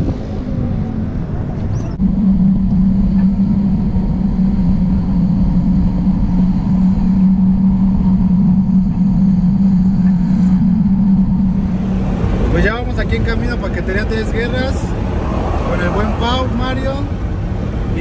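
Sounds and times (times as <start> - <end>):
truck engine drone: 0.0 - 18.0
wind and road rumble: 0.0 - 18.0.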